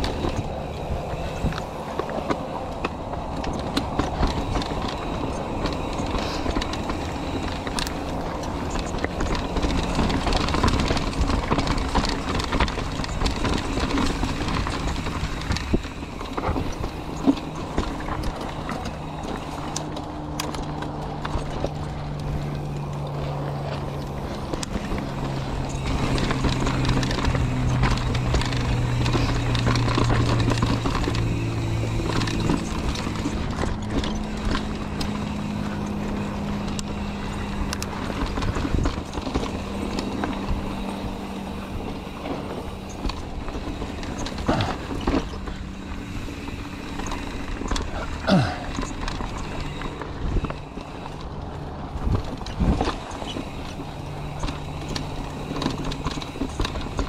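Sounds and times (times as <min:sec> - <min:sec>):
bike tyres crunching over gravel: 0:00.0 - 0:57.0.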